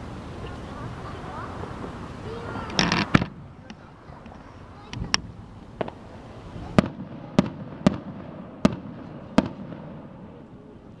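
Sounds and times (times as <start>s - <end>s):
firework shells bursting: 1.7s - 10.8s.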